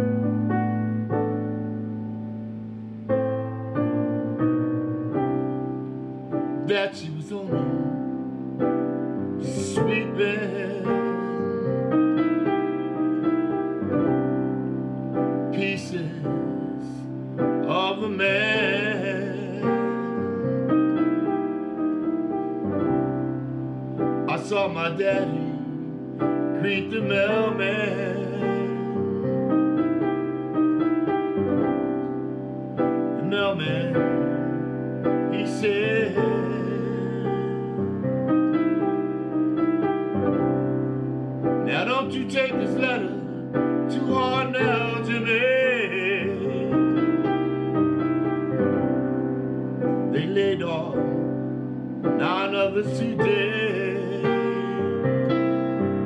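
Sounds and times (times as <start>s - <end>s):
slow piano chords and melody: 0.0s - 56.0s.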